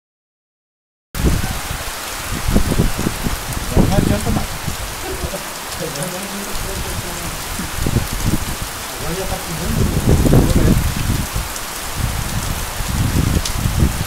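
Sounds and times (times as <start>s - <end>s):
heavy rain pouring: 1.2s - 14.0s
wind buffeting microphone: 1.2s - 14.0s.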